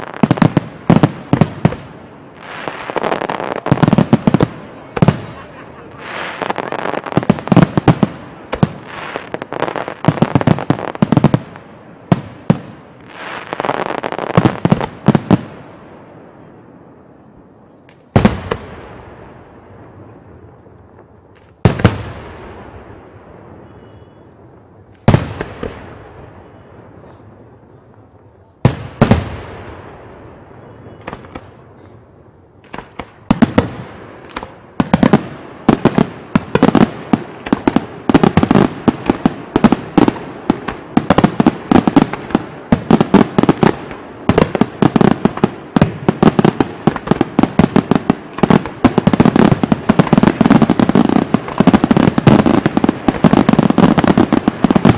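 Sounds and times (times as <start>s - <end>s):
rapid firework bangs and crackles: 0.0s - 16.6s, 17.8s - 19.7s, 21.3s - 32.0s, 32.6s - 54.9s.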